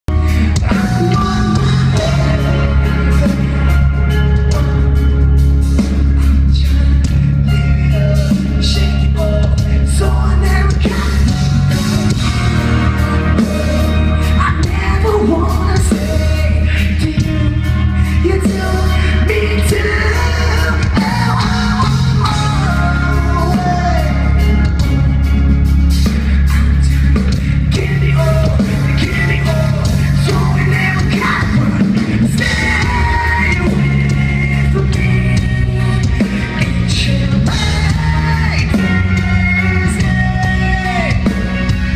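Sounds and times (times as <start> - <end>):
drums: 0.0 - 41.9
electric guitars: 0.0 - 41.9
heavy bass: 0.0 - 41.9
person singing and yelling: 6.3 - 24.8, 26.3 - 41.6.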